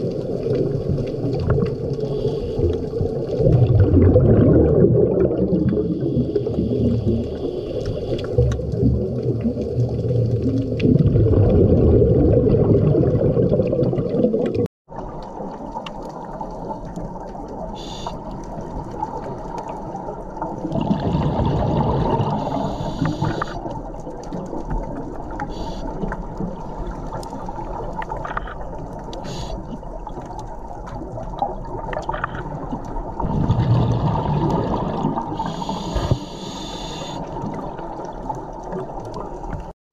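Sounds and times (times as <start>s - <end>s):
regulator bubbles gurgling: 0.0s - 39.7s
underwater water noise: 0.0s - 39.8s.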